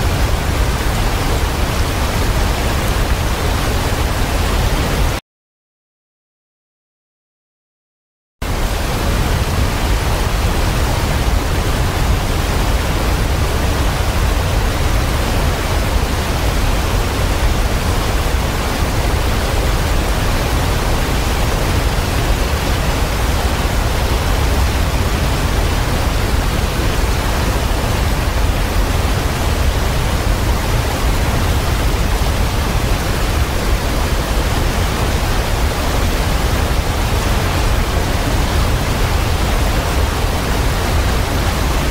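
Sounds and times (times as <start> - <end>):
waterfall rushing: 0.0 - 5.2, 8.4 - 41.9.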